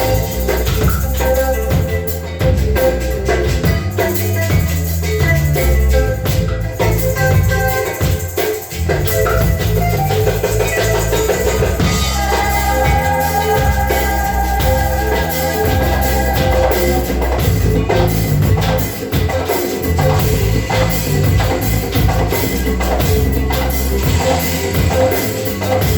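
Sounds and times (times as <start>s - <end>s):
band music: 0.0s - 25.9s
bass line: 0.0s - 25.9s
drum kit: 0.0s - 25.9s.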